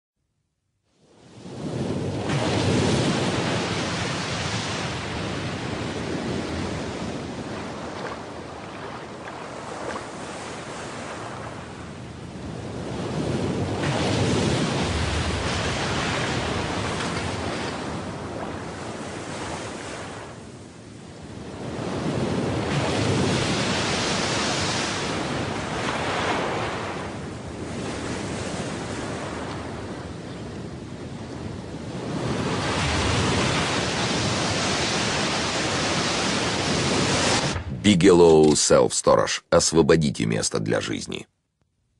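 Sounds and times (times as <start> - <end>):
ocean surf washing: 1.0 - 41.2.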